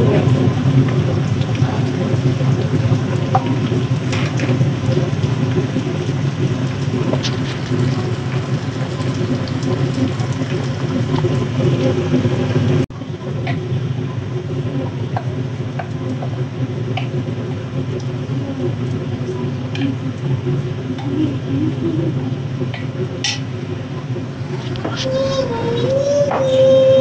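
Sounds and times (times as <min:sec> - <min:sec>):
oil sizzling in a wok: 0:00.0 - 0:24.6
steady low hum: 0:00.0 - 0:27.0.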